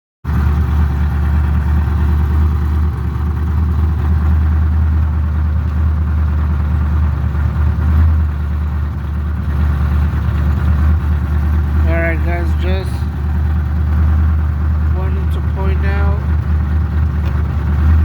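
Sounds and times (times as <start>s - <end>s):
car engine idling: 0.2s - 18.0s.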